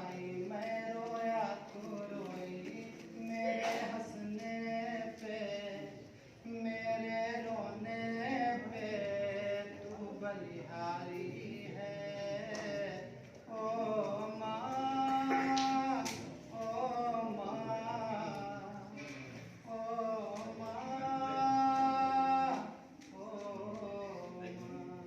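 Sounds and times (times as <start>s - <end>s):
man singing: 0.0s - 25.0s.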